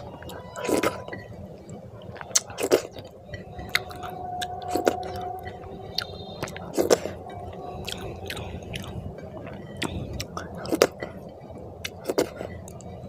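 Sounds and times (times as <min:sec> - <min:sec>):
wet chewing and lip smacking: 0:00.0 - 0:13.0.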